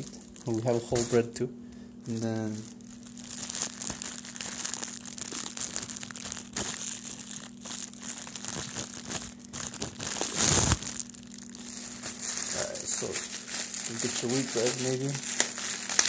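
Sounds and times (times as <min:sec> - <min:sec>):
plastic bag crinkling: 0:00.0 - 0:01.4, 0:02.1 - 0:16.0
faint low hum: 0:00.0 - 0:16.0.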